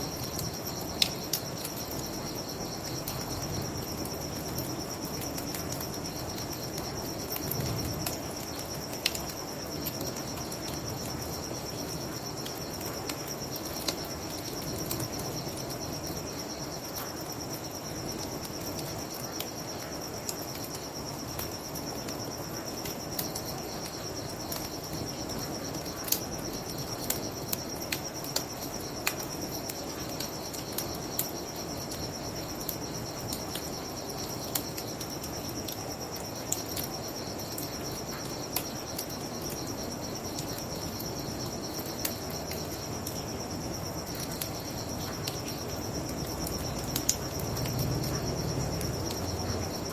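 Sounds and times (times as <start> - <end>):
crickets chirring: 0.0 - 49.9
wood fire crackling: 0.1 - 49.9.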